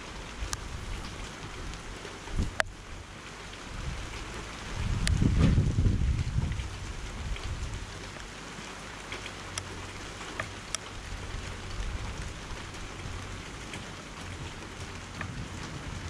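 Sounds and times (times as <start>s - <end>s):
wind rumble on microphone: 0.0s - 8.4s, 9.4s - 16.0s
raindrops ticking near microphone: 0.0s - 16.0s
steady rain falling: 0.0s - 16.0s.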